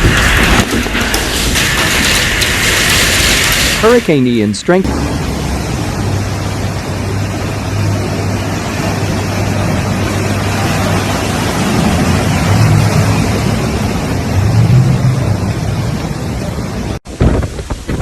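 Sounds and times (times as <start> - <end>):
hurricane wind roaring: 0.0 - 18.0
low hum: 0.0 - 18.0
surf: 0.0 - 18.0.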